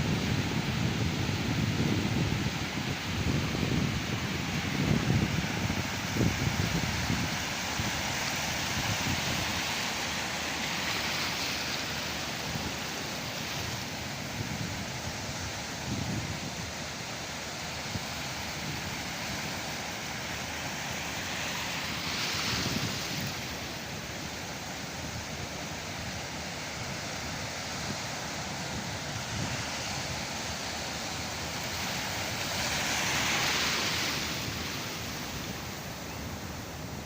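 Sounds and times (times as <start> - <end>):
sea surf washing on shore: 0.0 - 37.0
waves breaking: 0.0 - 37.0.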